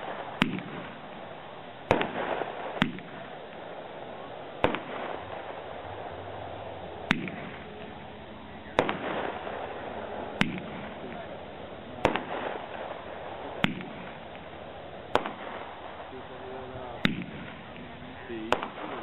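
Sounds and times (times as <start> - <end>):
firework reports: 0.0 - 19.0.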